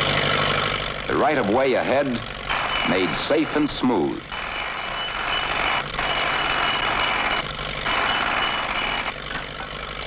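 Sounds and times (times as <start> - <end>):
track machine mechanical clatter: 0.0 - 10.0.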